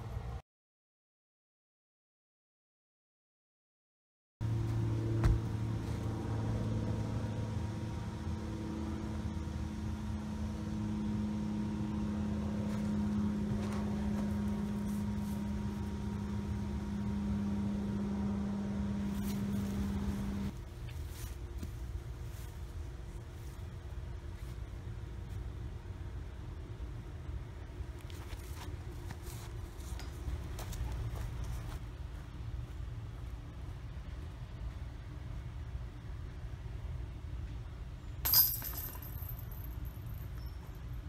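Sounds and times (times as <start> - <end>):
faint background hum: 4.5 - 41.0.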